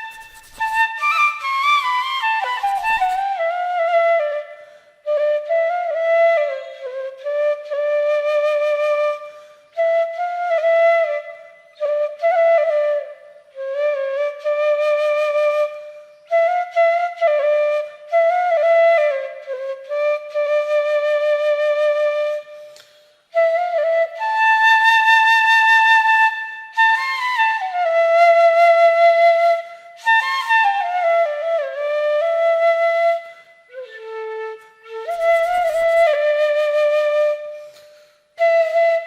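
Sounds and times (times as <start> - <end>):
solo flute melody: 0.0 - 39.0.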